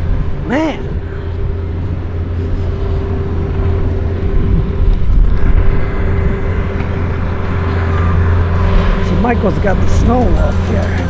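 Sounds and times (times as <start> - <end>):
rush of noise: 0.0 - 11.0
steady hum: 0.0 - 11.0
vehicle engine droning: 0.0 - 11.0.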